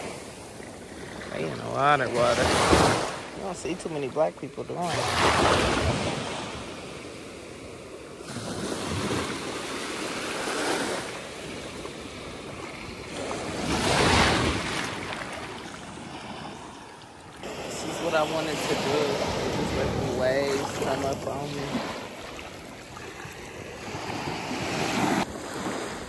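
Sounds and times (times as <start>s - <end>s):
ocean surf washing: 0.0s - 26.0s.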